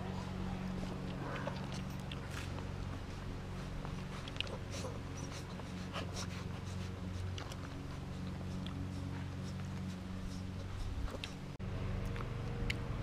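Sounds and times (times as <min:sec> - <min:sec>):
puppies suckling and snuffling: 0:00.0 - 0:13.0
steady low hum: 0:00.0 - 0:13.0.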